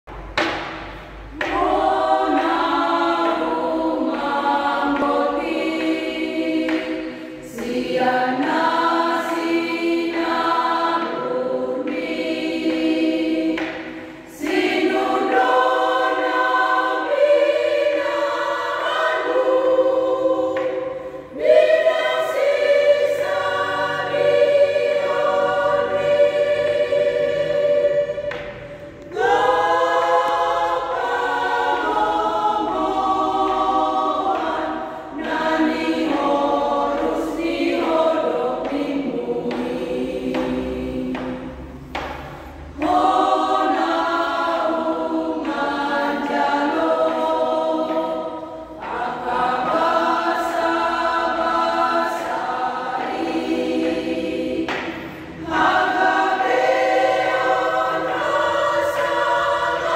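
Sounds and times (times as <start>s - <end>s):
women's choir singing a hymn: 0.2s - 59.9s.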